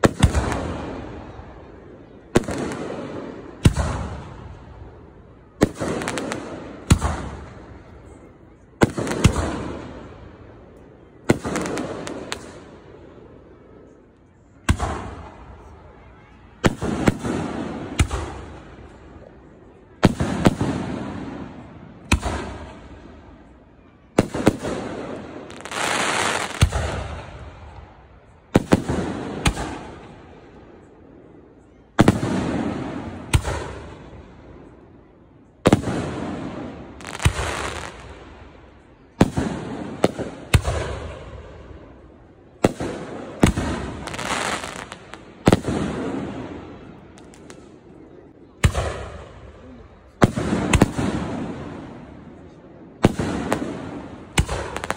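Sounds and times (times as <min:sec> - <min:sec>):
crackling firework shower: 0:00.0 - 0:34.8, 0:35.5 - 0:54.9.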